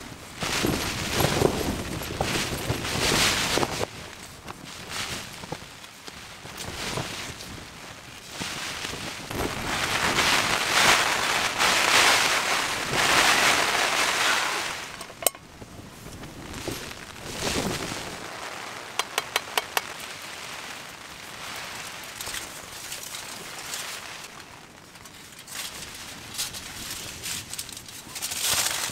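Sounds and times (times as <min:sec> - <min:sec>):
rain and wind on tent fabric: 0:00.0 - 0:28.9.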